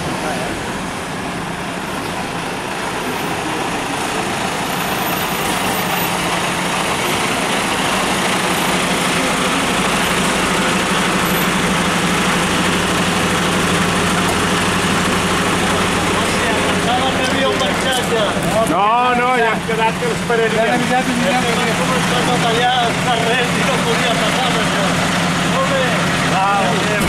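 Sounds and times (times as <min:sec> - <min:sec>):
diesel truck engine hum: 0:00.0 - 0:27.0.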